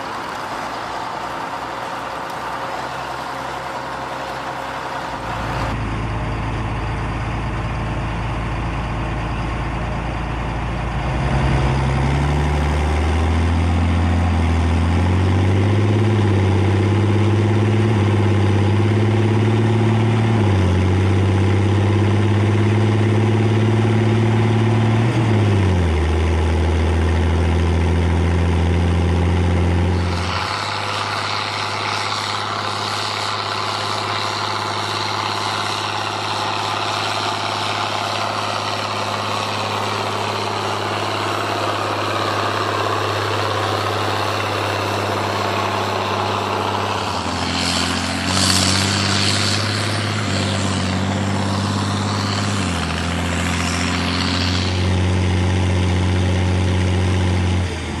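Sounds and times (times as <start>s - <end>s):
tractor diesel engine: 0.0s - 58.0s.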